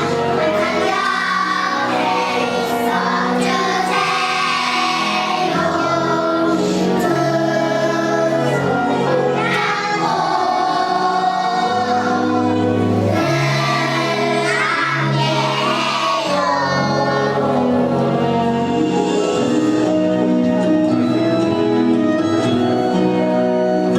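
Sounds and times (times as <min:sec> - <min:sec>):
children's choir singing: 0:00.0 - 0:19.9
instrumental accompaniment: 0:00.0 - 0:23.9.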